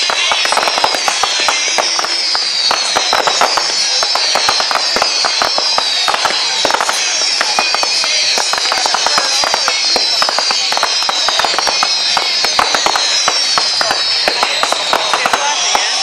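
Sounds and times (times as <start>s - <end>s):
fireworks bangs and crackles: 0.0s - 16.0s
fireworks whistles falling in pitch: 0.0s - 16.0s.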